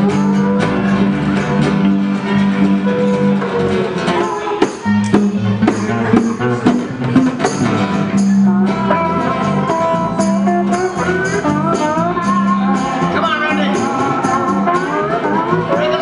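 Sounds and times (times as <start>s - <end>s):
acoustic and electric guitars: 0.0s - 16.0s
hand drums: 0.0s - 16.0s
sliding lead melody: 0.0s - 16.0s.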